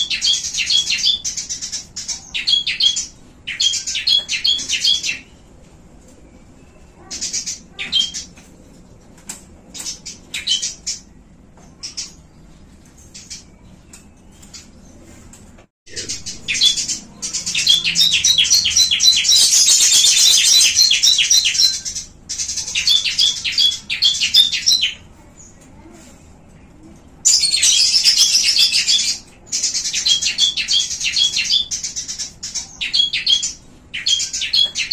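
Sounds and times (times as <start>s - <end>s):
small birds chirping: 0.0s - 8.8s, 9.7s - 15.3s, 15.9s - 34.9s.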